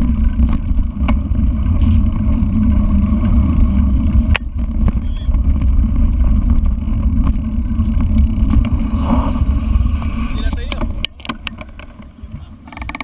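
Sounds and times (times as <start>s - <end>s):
bike clicks and knocks: 0.0s - 8.9s, 10.5s - 13.0s
tyres rumbling on rough ground: 0.0s - 13.0s.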